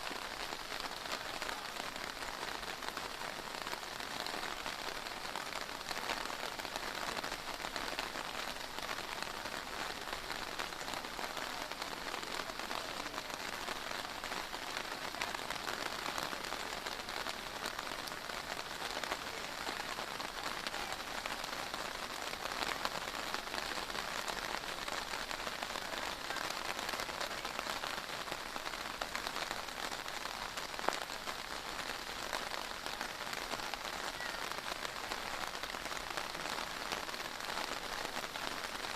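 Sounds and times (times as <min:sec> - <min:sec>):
heavy rain pattering on hard surfaces: 0:00.0 - 0:38.9.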